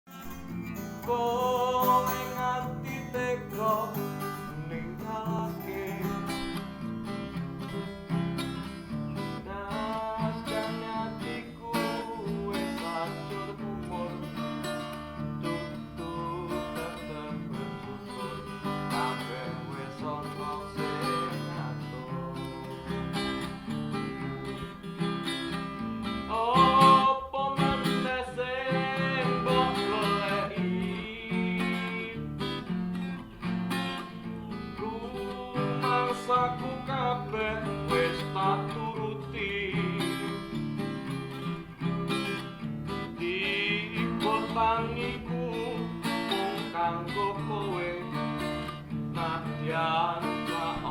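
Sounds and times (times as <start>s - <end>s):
person singing: 0.1s - 6.9s, 9.2s - 24.3s, 26.3s - 32.3s, 33.9s - 50.9s
acoustic guitar strummed: 0.1s - 50.9s.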